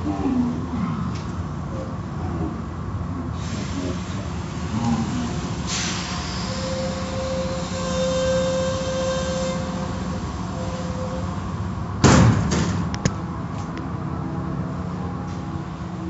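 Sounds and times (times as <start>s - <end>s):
car wash machinery and water spray: 3.0s - 16.0s.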